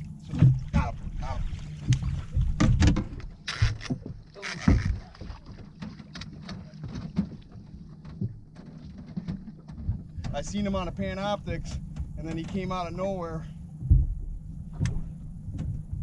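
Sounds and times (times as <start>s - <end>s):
knocks and bumps on a boat: 0.0s - 16.0s
low steady rumble: 0.0s - 16.0s.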